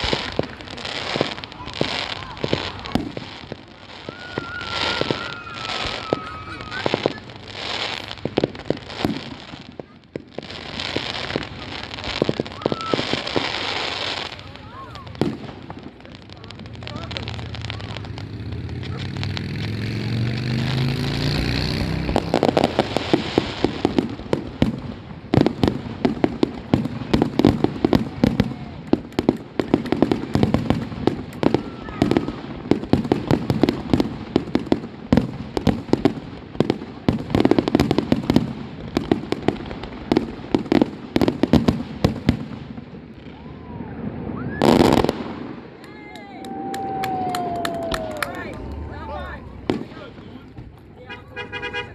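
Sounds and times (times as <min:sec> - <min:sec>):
fireworks bangs and crackle: 0:00.0 - 0:51.9.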